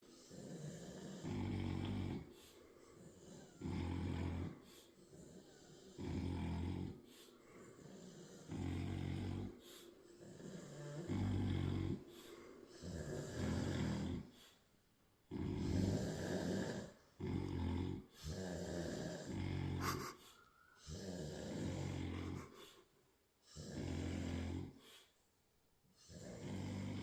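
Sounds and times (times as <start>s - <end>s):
person snoring: 0.0s - 14.6s, 15.3s - 25.1s, 26.0s - 27.0s
quiet breaths: 0.0s - 27.0s.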